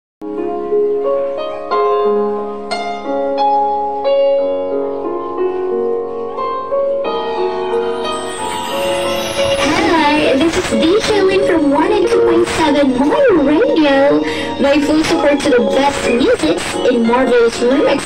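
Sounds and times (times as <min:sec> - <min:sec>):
keyboard music with chords: 0:00.2 - 0:18.0.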